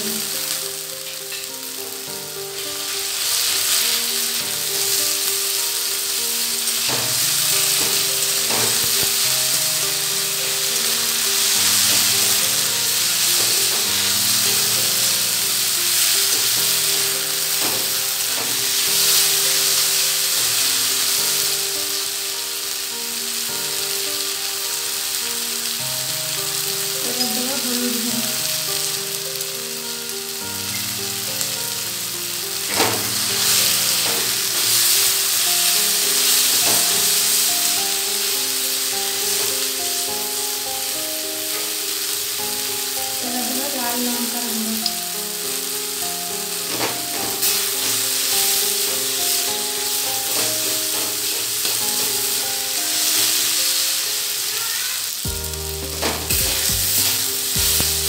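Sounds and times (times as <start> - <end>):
vegetables sizzling in hot oil: 0.0 - 58.0.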